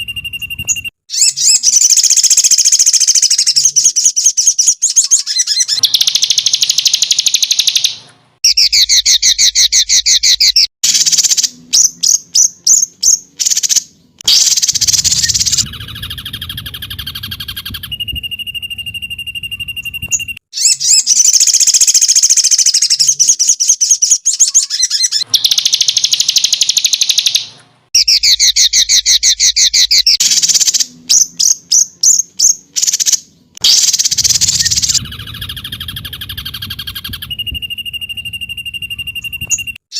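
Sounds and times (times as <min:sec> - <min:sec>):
held whistle: 0:00.0 - 0:12.5, 0:13.4 - 0:23.3, 0:23.9 - 0:39.9
songbird song: 0:00.0 - 0:39.9.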